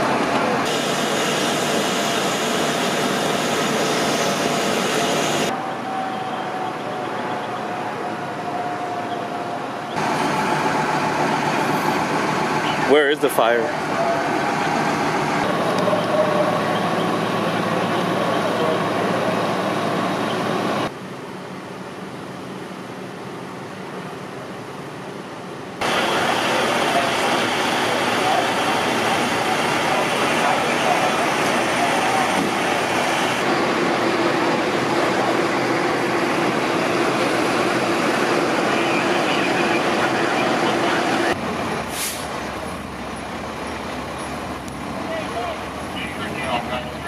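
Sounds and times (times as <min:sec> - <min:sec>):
truck engines idling: 0:00.0 - 0:47.0.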